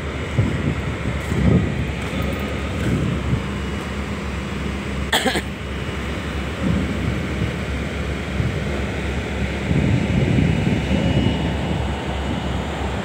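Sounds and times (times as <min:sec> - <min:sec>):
low machinery rumble: 0:00.0 - 0:13.0.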